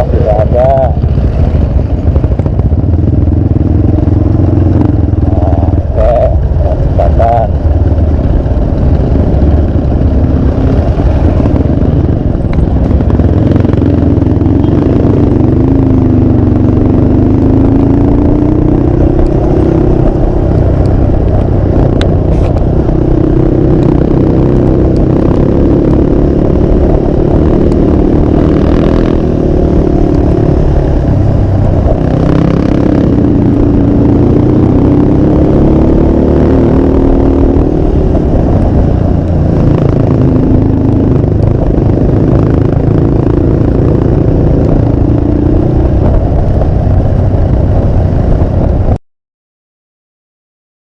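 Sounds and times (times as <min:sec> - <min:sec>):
motorcycle engine cruising: 0:00.0 - 0:49.0
wind on microphone: 0:00.0 - 0:49.0.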